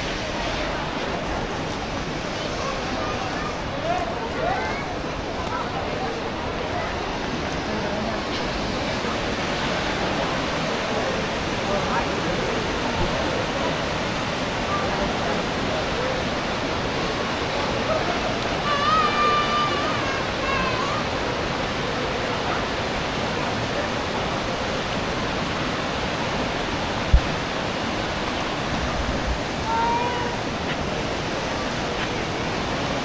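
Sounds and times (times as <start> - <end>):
river rapids rushing: 0.0 - 33.0.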